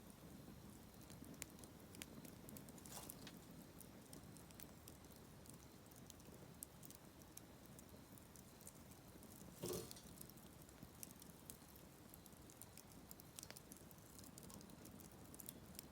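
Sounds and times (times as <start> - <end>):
wood fire crackling: 0.0 - 15.9.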